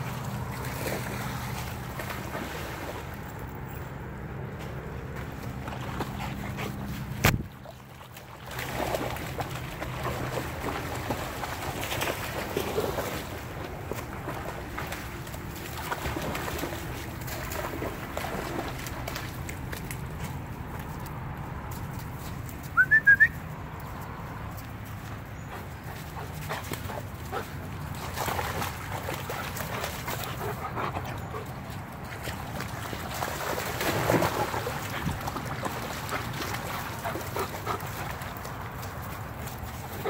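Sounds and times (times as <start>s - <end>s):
water splashing: 0.0s - 3.8s, 4.8s - 40.0s.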